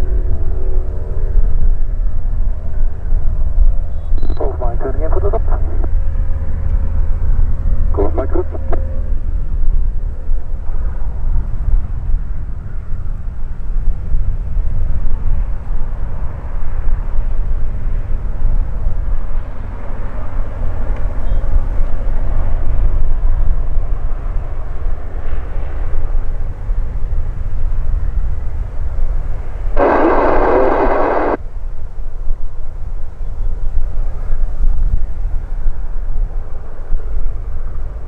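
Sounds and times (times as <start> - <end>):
faint plane engine droning overhead: 0.0 - 38.0.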